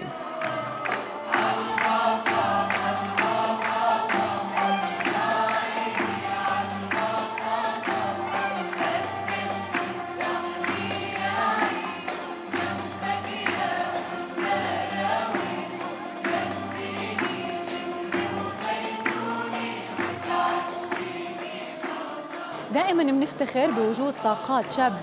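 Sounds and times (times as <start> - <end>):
percussion beat: 0.0 - 25.0
strings: 0.0 - 25.0
women singing with choir: 0.0 - 25.0.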